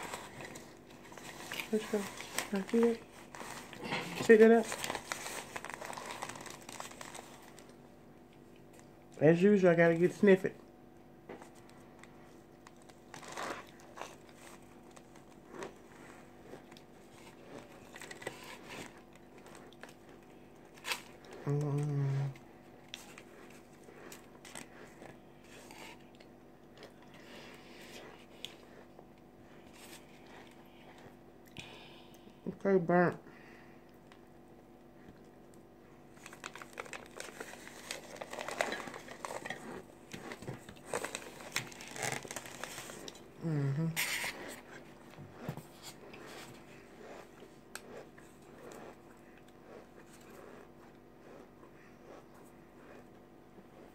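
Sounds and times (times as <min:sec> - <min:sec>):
crunching and chewing: 0:00.0 - 0:09.2, 0:11.3 - 0:32.2, 0:33.9 - 0:53.9.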